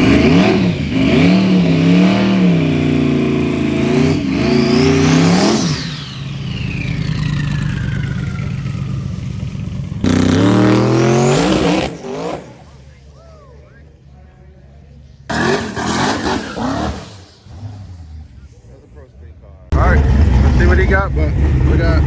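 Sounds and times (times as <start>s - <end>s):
race car engine revving: 0.0s - 13.0s, 15.3s - 22.0s.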